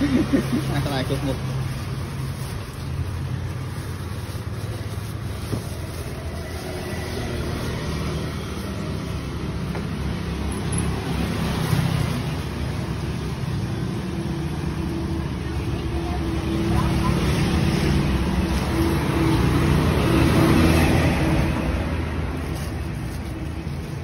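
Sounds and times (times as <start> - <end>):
street traffic noise: 0.0 - 24.0.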